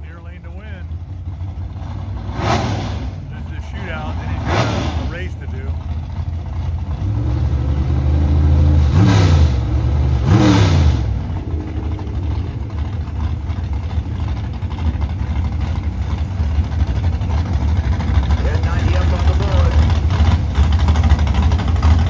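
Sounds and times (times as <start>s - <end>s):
race car engines revving: 0.0s - 22.0s.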